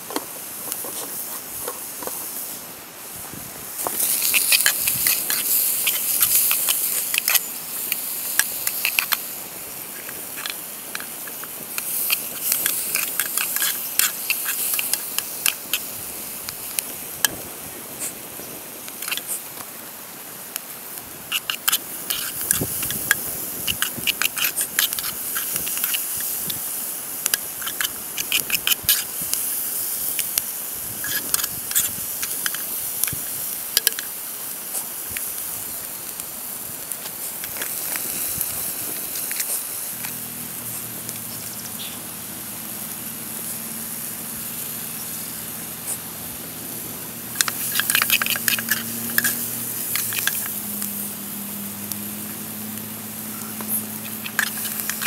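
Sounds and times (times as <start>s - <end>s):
sizzling pan with crackles: 0.0s - 55.0s.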